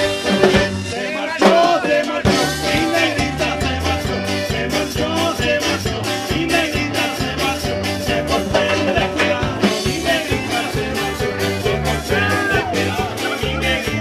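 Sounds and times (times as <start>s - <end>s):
live band playing latin dance music: 0.0s - 14.0s.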